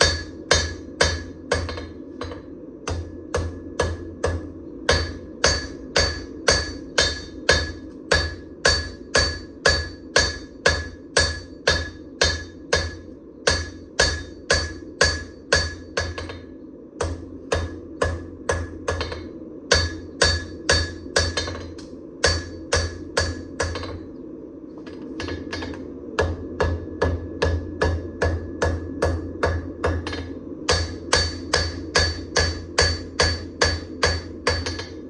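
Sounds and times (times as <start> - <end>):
hammer striking steel on anvil: 0.0 - 24.0, 24.8 - 35.0.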